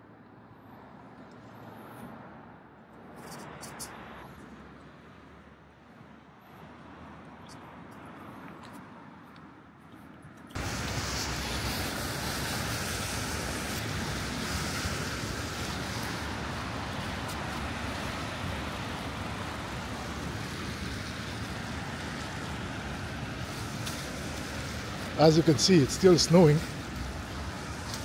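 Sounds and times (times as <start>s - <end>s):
city traffic: 0.0s - 28.0s.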